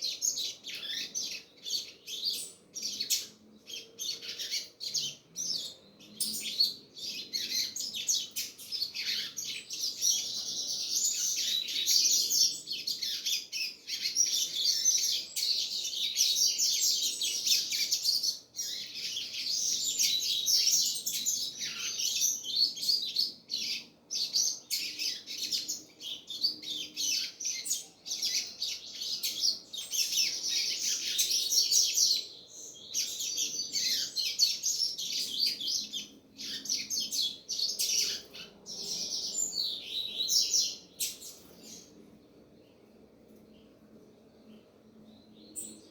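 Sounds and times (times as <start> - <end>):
bird singing high chirps: 0.0 - 42.9, 44.4 - 45.9.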